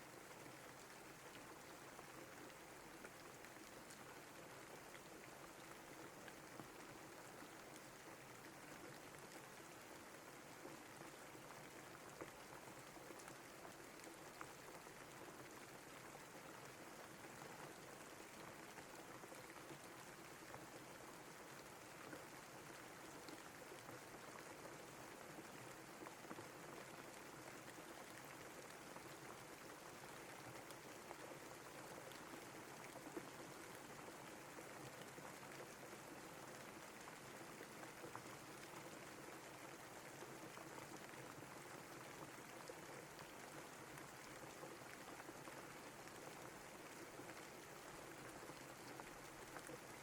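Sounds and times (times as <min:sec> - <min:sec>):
faint steady rain: 0:00.0 - 0:50.0.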